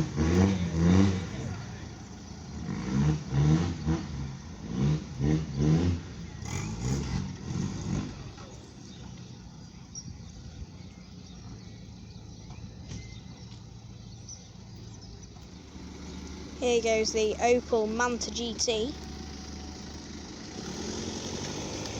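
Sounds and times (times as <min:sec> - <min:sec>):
car engine revving: 0:00.0 - 0:10.0, 0:13.6 - 0:21.9.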